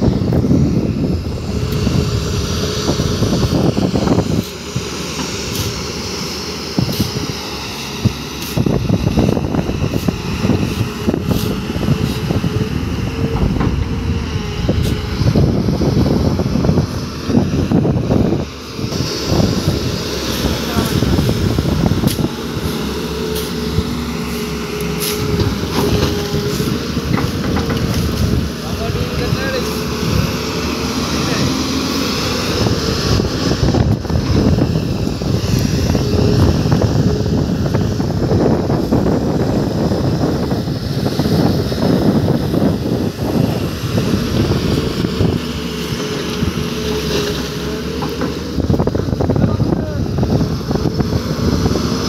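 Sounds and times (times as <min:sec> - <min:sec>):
excavator diesel engine running: 0:00.0 - 0:52.0
wind buffeting microphone: 0:00.0 - 0:52.0.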